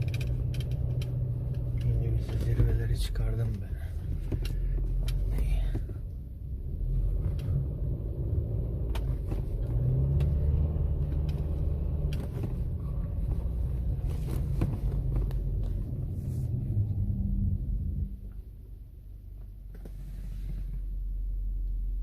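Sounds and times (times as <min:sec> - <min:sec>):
car engine rumbling under load: 0:00.0 - 0:22.0.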